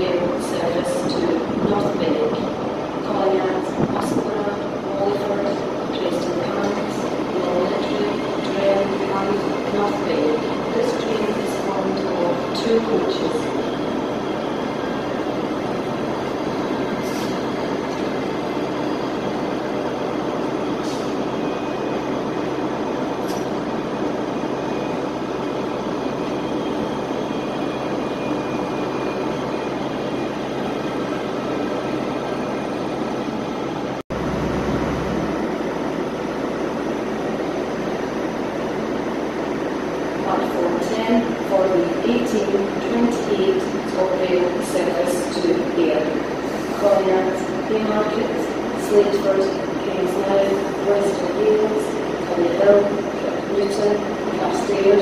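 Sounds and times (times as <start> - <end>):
train mechanical drone: 0.0 - 55.0.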